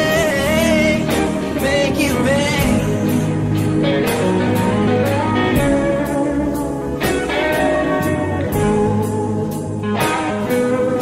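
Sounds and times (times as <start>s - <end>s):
instrumental blues-rock music: 0.0s - 11.0s.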